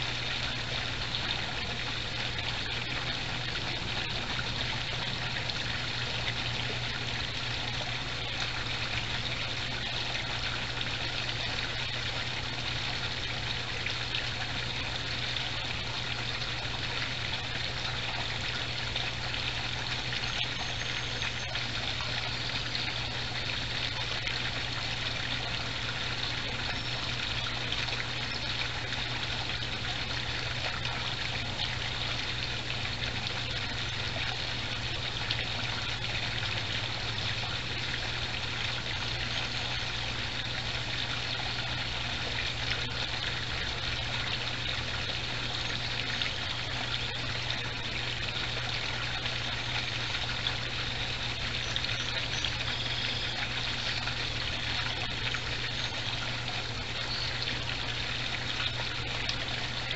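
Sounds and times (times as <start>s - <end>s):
water trickling and splashing: 0.0s - 59.9s.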